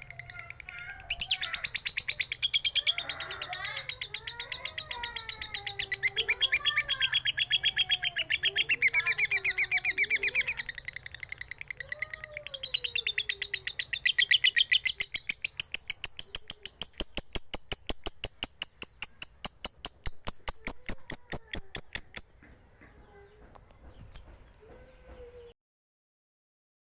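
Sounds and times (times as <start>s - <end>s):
bird shrill chirps: 0.0s - 22.4s.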